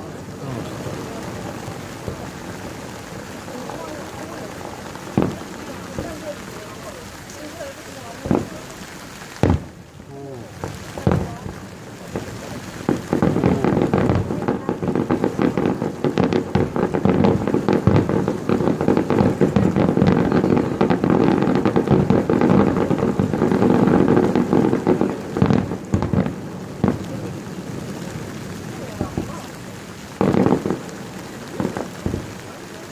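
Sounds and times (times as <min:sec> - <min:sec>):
fireworks bursting and crackling: 0:00.0 - 0:32.9.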